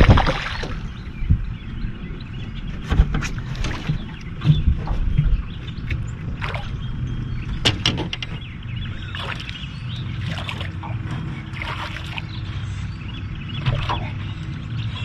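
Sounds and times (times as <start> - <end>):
water splashing beside boat hull: 0.0 - 14.6
steady low rumble: 0.0 - 15.0.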